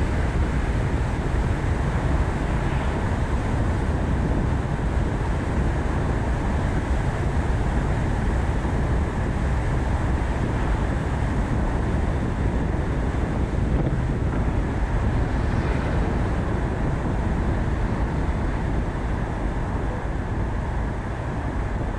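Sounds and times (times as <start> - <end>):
road and engine rumble: 0.0 - 21.9
wind on microphone: 0.0 - 21.9.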